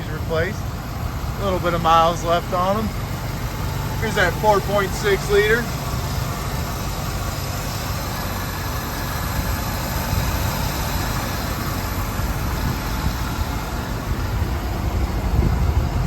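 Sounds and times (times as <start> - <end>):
pickup truck engine idling: 0.0 - 16.0.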